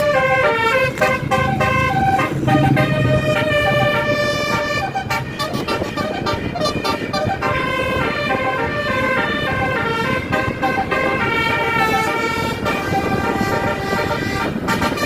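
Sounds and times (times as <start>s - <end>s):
bus musical horn melody: 0.0s - 15.0s
steady low rumble: 0.0s - 15.0s.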